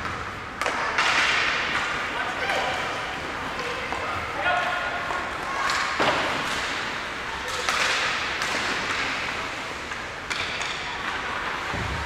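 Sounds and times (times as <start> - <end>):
hockey sticks and puck clacking: 0.0 - 12.0.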